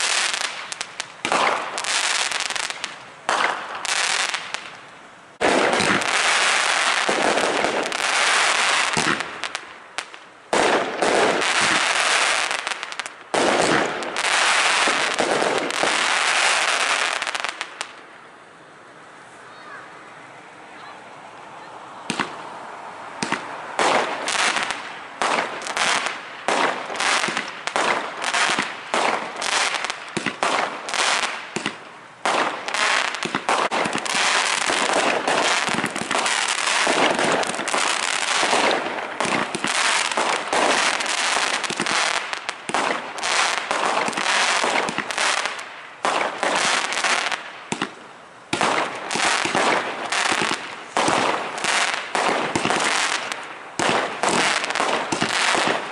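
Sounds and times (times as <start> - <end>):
fireworks bangs and crackling: 0.0 - 18.0, 22.0 - 22.5, 23.2 - 55.9.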